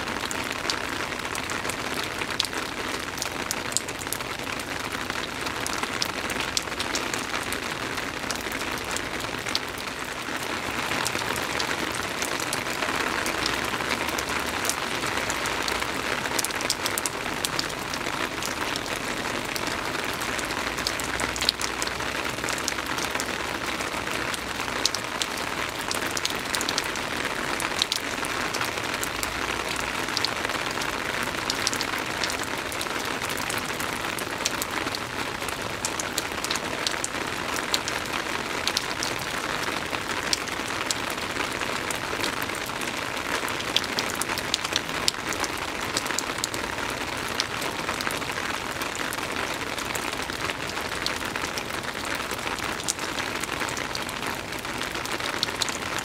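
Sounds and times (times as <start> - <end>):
soft rain hiss: 0.0 - 56.0
raindrops ticking: 0.1 - 56.0.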